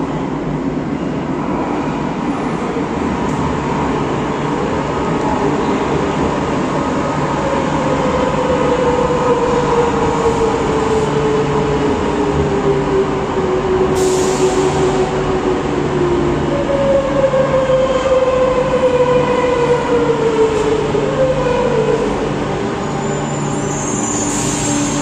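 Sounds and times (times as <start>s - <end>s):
train rumble and rail noise: 0.0s - 25.0s.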